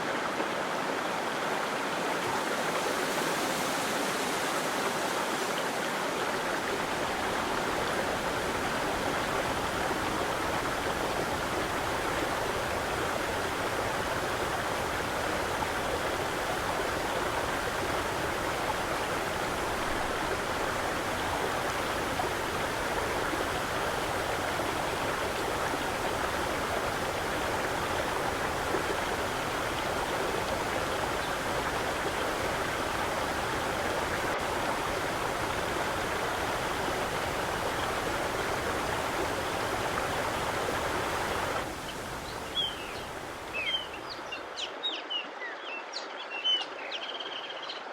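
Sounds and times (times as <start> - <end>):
running water rushing: 0.0 - 44.8.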